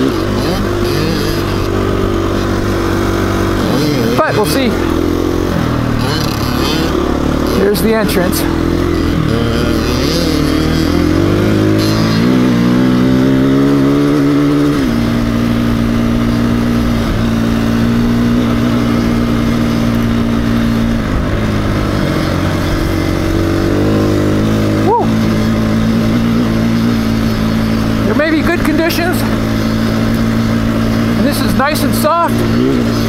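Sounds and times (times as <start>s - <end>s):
dirt bike engine accelerating: 0.0s - 33.0s.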